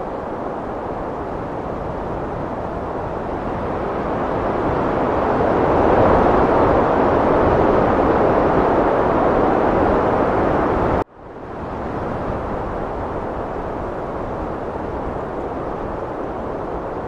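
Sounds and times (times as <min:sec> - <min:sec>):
heavy wind rushing: 0:00.0 - 0:17.0.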